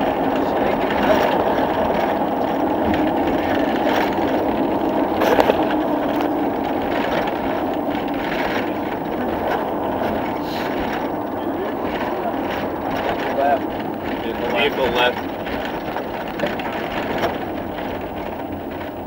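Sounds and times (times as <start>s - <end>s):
light knocks and rattles: 0.0s - 19.0s
vehicle engine and road noise: 0.0s - 19.0s.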